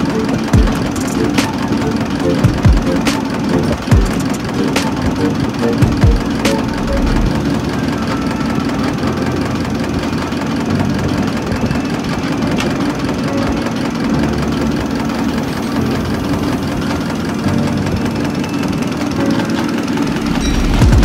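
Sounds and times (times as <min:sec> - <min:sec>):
test bench machine running: 0:00.0 - 0:21.0.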